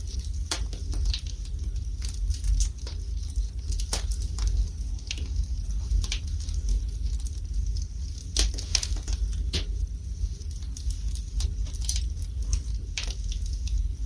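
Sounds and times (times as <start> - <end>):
fire crackling and popping: 0.0 - 14.0
low rumble of fire: 0.0 - 14.0.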